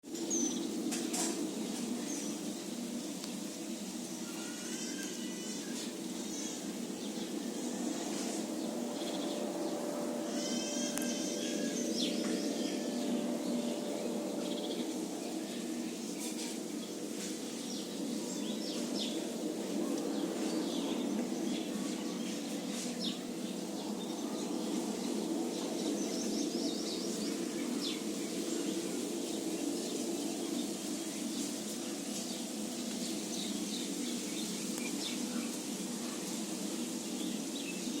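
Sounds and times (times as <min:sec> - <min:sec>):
small birds chirping: 0:00.1 - 0:38.0
steady low background rush: 0:05.9 - 0:38.0.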